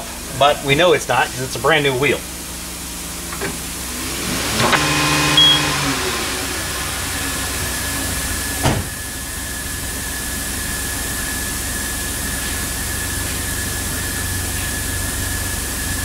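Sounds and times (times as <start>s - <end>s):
wheel balancer motor whining: 2.6s - 16.0s.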